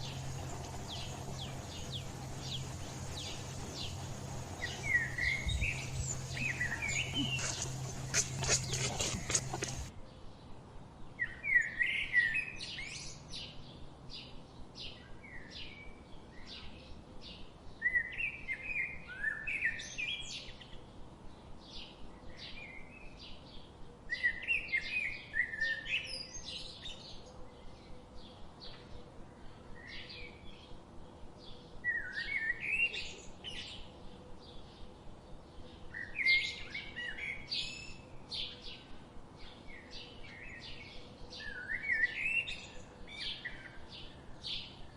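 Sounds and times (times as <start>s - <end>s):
songbird warbled song: 0.0s - 10.6s, 11.2s - 44.9s.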